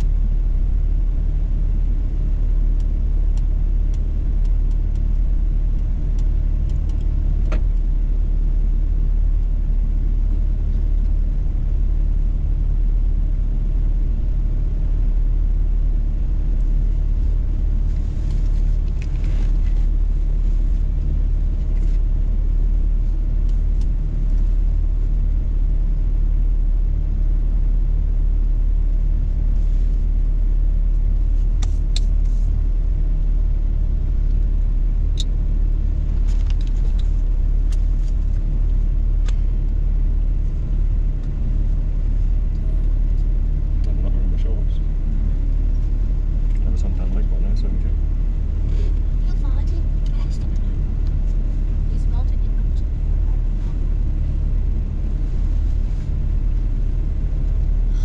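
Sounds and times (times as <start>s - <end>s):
car driving at highway speed: 0.0s - 58.0s.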